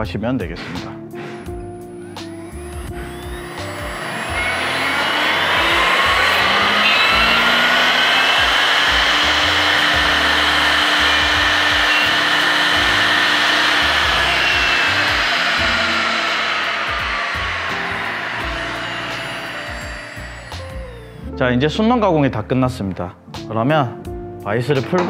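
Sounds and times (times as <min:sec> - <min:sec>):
router motor cutting wood: 0:01.6 - 0:22.0.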